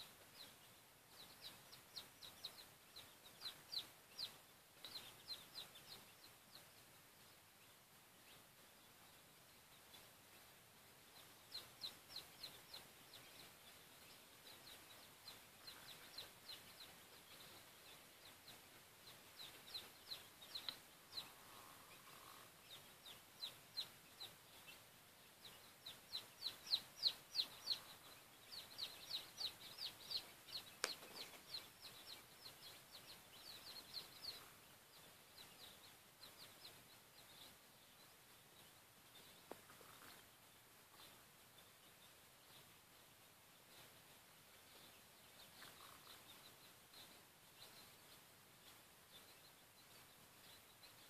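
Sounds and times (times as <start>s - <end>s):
chicks peeping: 0.0s - 51.0s.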